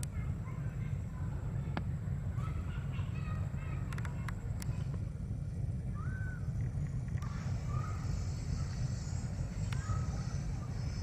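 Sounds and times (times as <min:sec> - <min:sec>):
distant locomotive rumble: 0:00.0 - 0:11.0.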